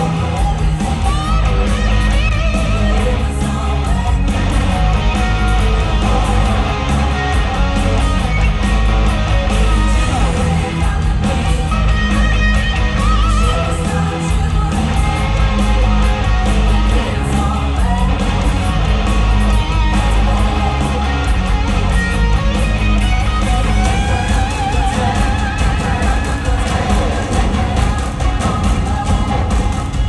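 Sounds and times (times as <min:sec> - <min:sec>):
loud rock music: 0:00.0 - 0:30.0
person singing: 0:00.0 - 0:30.0.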